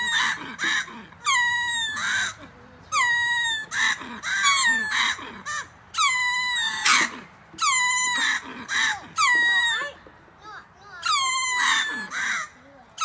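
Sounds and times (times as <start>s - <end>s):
lemurs wailing calls: 0.0s - 13.0s.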